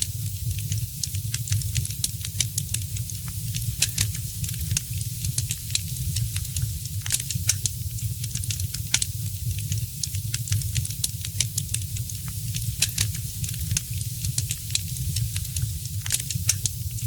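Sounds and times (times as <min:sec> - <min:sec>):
wood fire crackling: 0:00.1 - 0:17.0.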